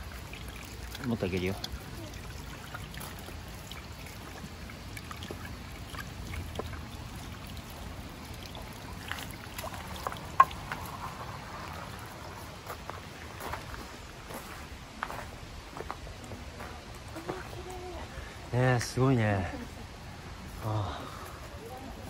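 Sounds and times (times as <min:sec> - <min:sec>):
water running and trickling: 0:00.0 - 0:22.0.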